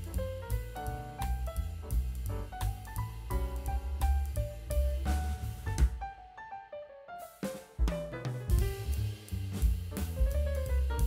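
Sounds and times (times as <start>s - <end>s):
music with drum beat and bass: 0.0s - 6.0s, 7.3s - 11.0s.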